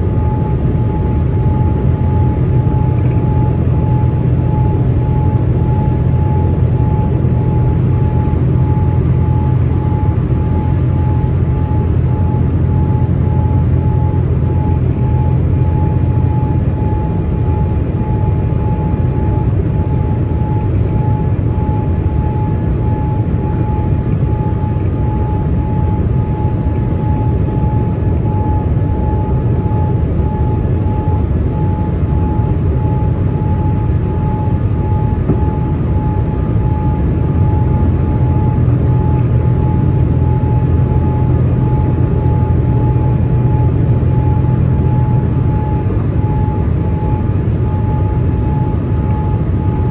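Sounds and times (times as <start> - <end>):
airliner engines and airflow rumble: 0.0 - 49.9
thin steady whine: 0.0 - 49.9.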